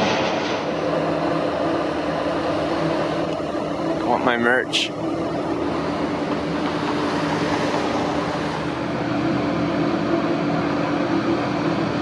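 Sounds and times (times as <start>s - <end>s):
vehicle running with low hum: 0.0s - 12.0s.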